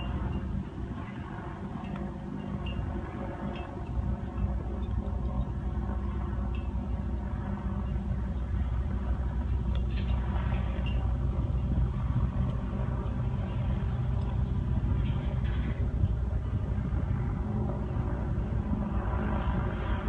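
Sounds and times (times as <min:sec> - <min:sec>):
airship engines droning: 0:00.0 - 0:20.0.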